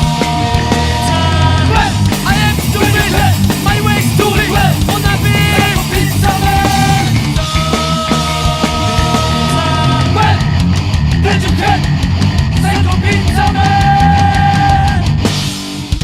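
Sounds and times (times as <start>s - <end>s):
metal band playing: 0.0s - 16.0s.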